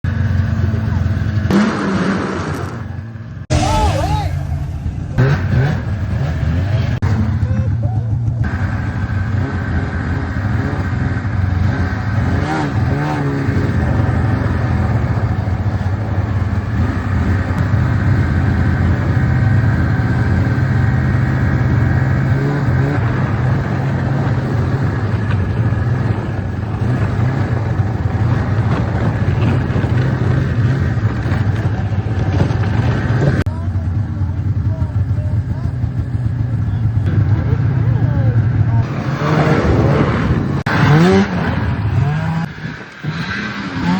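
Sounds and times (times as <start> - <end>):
snowmobile engine running: 8.2 - 43.9.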